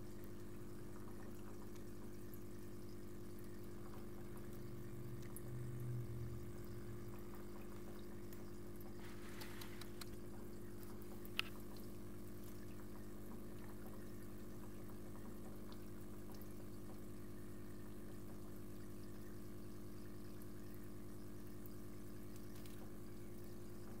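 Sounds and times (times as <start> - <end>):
aquarium pump humming: 0.0 - 24.0
water trickling into tank: 0.0 - 24.0.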